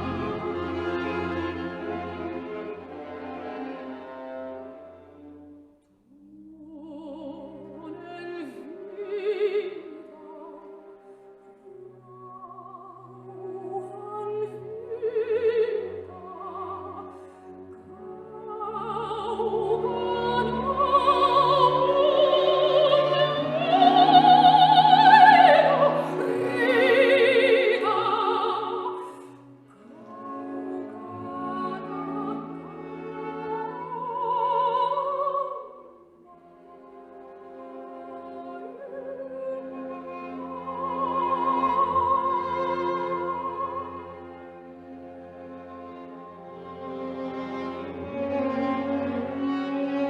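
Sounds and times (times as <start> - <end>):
operatic singing with vibrato: 6.1 - 11.0, 11.6 - 50.0.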